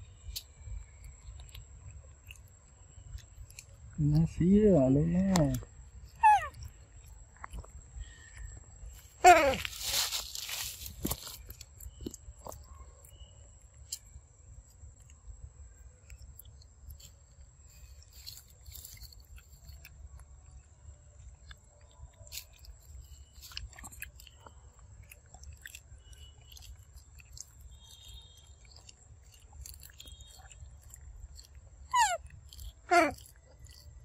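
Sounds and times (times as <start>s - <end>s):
small crunches and wet clicks: 0.0s - 34.0s
monkey chewing fruit: 0.2s - 34.0s.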